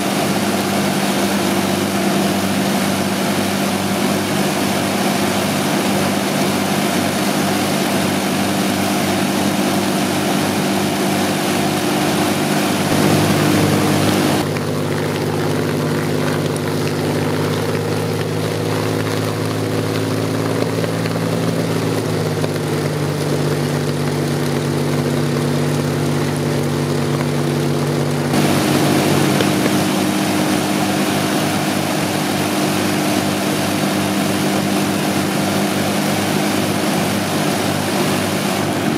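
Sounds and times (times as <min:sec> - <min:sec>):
aero engines droning: 0:00.0 - 0:38.9.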